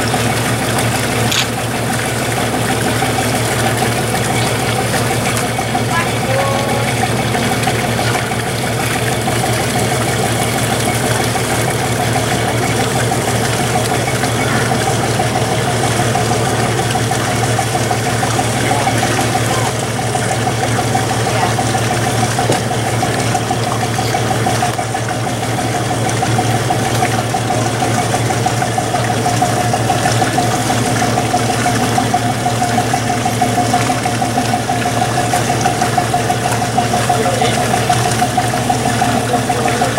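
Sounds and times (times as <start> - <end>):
machine hum with whine: 0.0 - 39.9.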